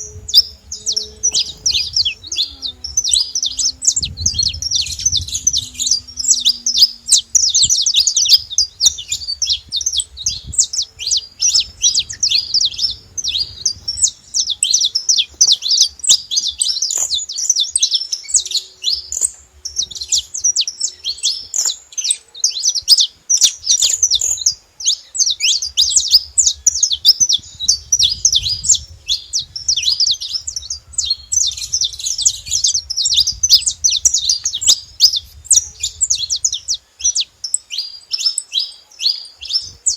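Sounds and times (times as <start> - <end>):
finch singing high chirps: 0.0 - 39.9.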